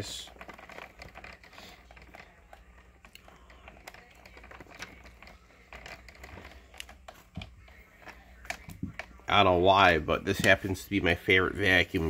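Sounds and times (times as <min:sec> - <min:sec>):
faint clicks and rustles: 0:00.0 - 0:12.0.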